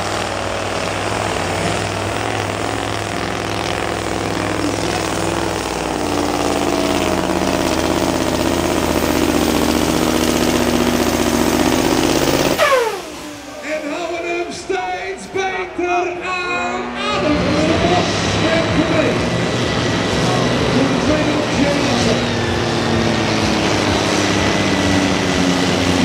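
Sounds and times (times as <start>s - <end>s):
truck diesel engine under load: 0.0s - 26.0s.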